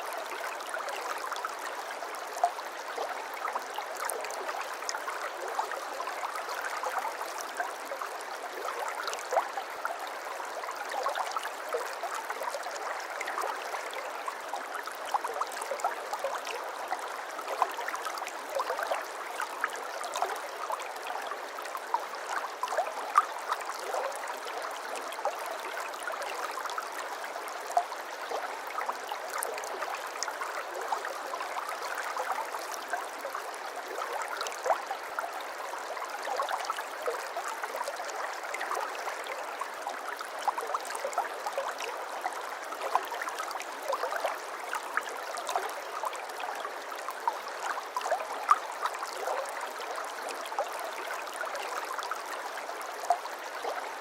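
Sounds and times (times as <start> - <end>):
water babbling in a stream: 0.0 - 54.0.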